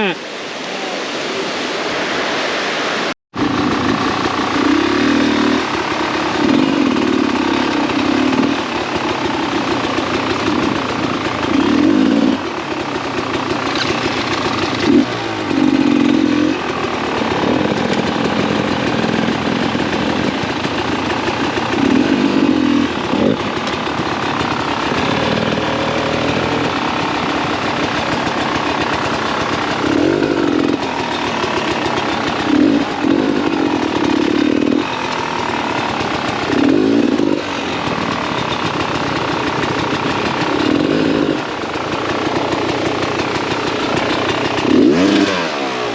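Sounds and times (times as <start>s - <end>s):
dirt bike engine revving: 3.4s - 45.9s.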